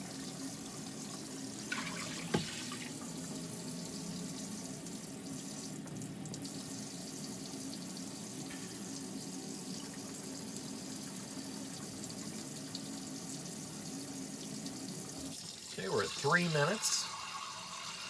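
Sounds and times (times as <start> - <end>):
faucet running water into sink: 0.0 - 18.0.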